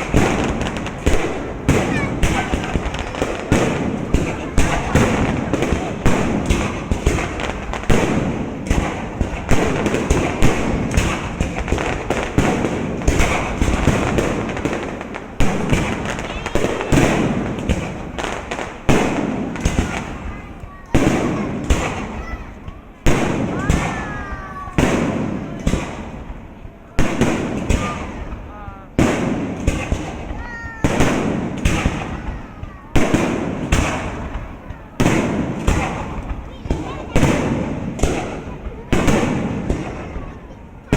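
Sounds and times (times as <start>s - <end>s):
fireworks crackle and rumble: 0.0s - 40.9s
fireworks shells bursting: 0.0s - 40.9s.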